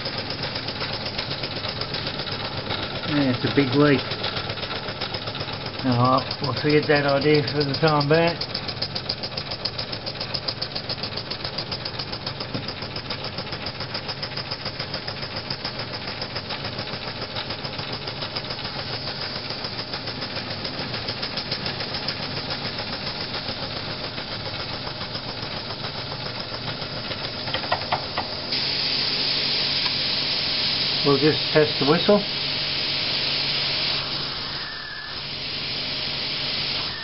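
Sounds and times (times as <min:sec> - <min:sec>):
steam engine hissing rhythmically: 0:00.0 - 0:37.0.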